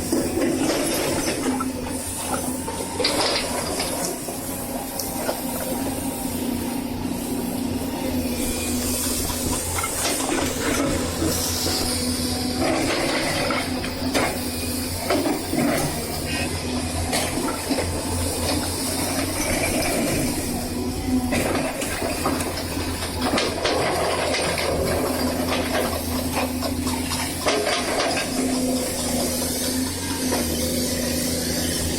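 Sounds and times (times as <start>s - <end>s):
diesel engine drone with hiss: 0.0s - 31.9s.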